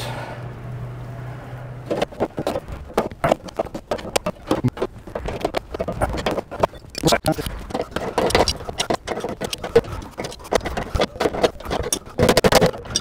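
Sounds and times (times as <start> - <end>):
metal scraping: 1.8 - 13.0.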